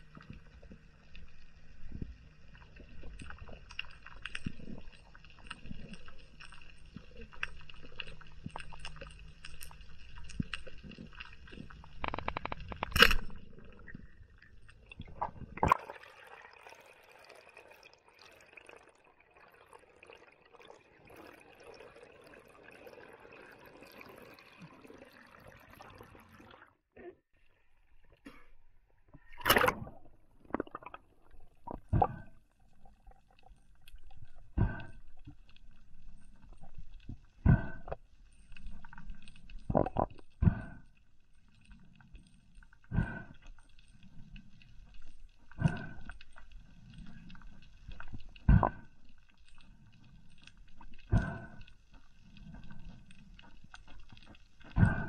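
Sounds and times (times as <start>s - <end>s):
underwater bubbles gurgling: 0.0s - 26.7s, 29.4s - 40.8s, 42.9s - 55.0s.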